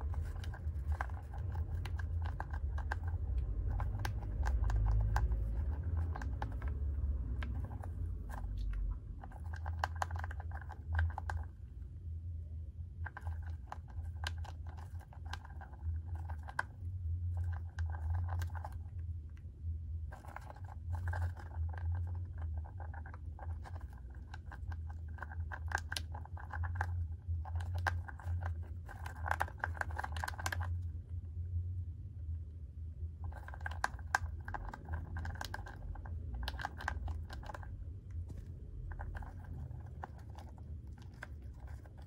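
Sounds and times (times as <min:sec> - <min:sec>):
hamster crunching food pellets: 0:00.0 - 0:42.0
low steady hum: 0:00.0 - 0:42.0.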